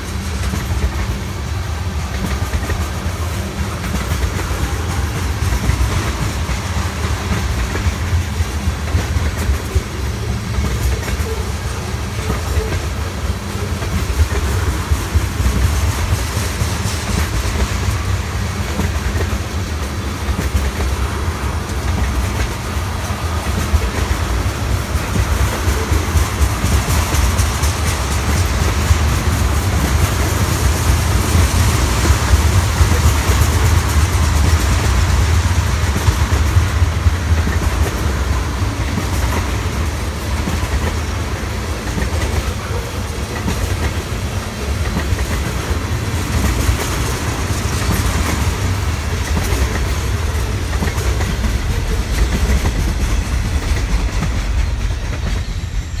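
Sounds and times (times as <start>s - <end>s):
freight train rumbling: 0.0s - 56.0s
steel wheels clattering over rail joints: 0.0s - 56.0s.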